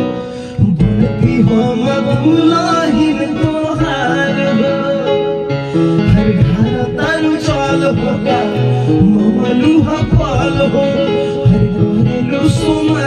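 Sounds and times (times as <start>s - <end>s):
man singing into microphone: 0.0s - 13.0s
plucked-string backing track: 0.0s - 13.0s.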